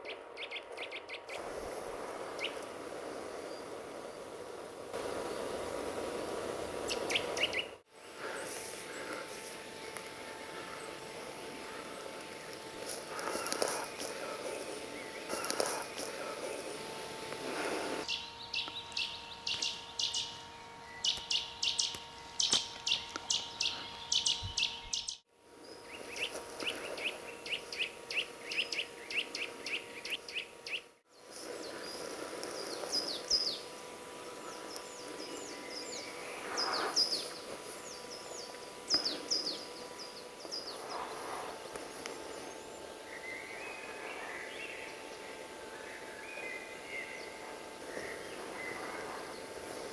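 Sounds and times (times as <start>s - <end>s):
small songbirds calling: 0.0s - 1.5s, 2.3s - 2.7s, 6.8s - 49.9s
faint steady hum: 0.0s - 49.9s.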